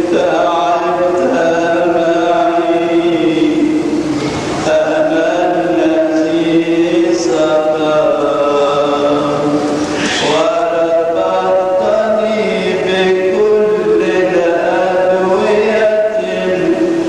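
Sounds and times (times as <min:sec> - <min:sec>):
unaccompanied liturgical chant: 0:00.0 - 0:17.0.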